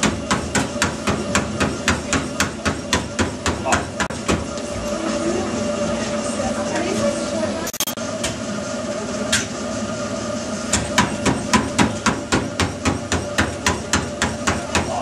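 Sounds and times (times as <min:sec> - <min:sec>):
treadmill humming: 0:00.0 - 0:15.0.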